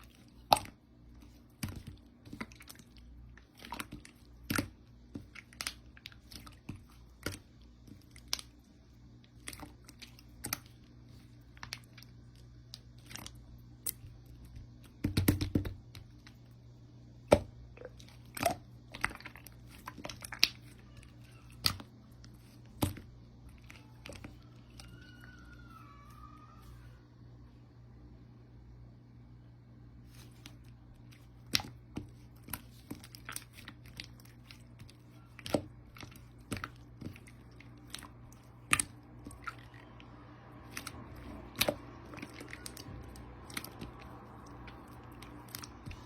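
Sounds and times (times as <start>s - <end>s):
slime squished by hand: 0.0s - 26.8s, 30.0s - 46.0s.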